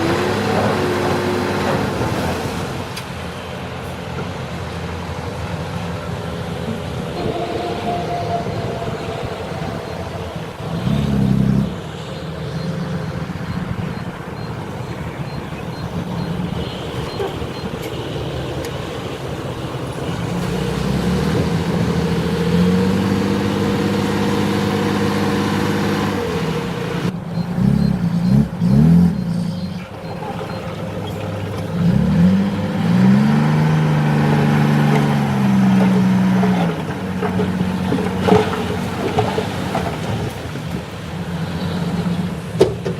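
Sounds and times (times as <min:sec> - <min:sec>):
diesel machinery engines revving: 0:00.0 - 0:42.9.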